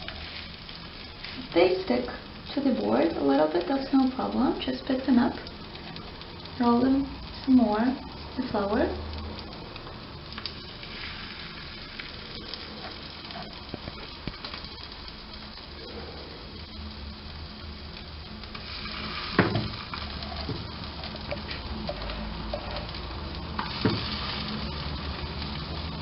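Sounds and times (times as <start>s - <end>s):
patties sizzling in pan: 0.0s - 26.0s.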